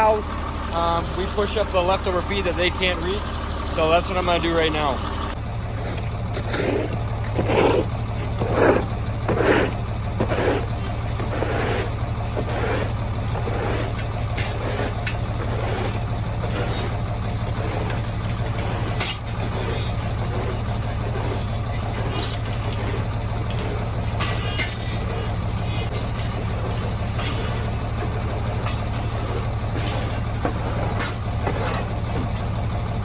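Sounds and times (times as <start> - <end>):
tractor engine droning: 0.0 - 33.0.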